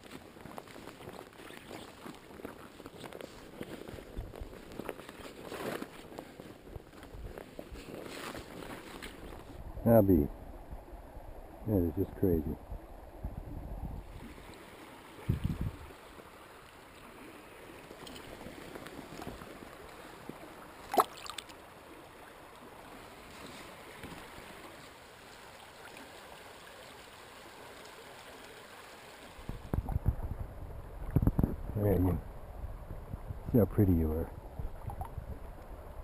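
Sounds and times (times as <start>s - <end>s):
river water rippling and lapping: 0.0s - 36.0s.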